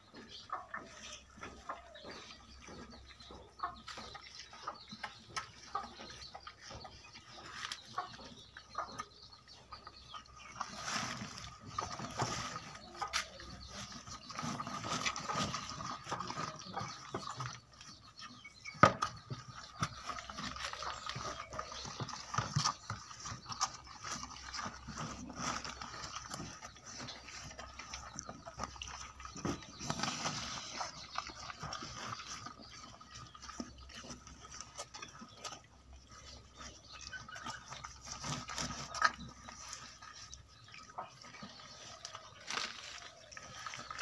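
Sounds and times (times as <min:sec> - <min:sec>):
cow slurping and munching feed: 0:00.0 - 0:44.0.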